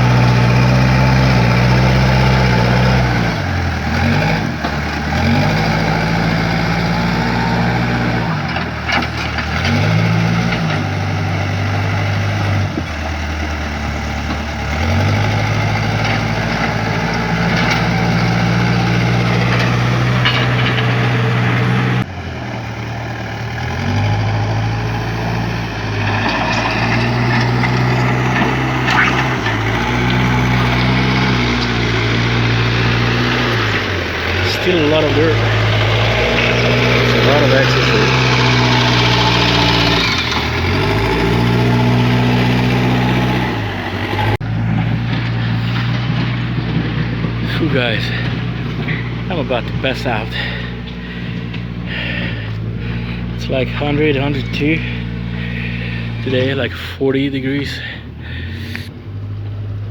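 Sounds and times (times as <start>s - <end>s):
backhoe engine running: 0.0s - 59.9s.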